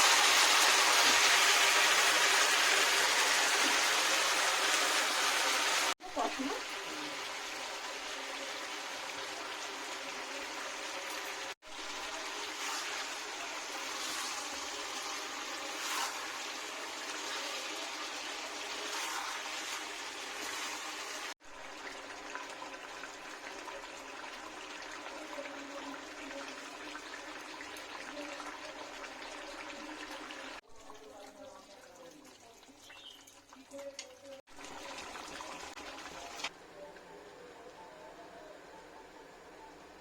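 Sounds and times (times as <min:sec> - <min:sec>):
curry sizzling in a pan: 0:00.0 - 0:40.0.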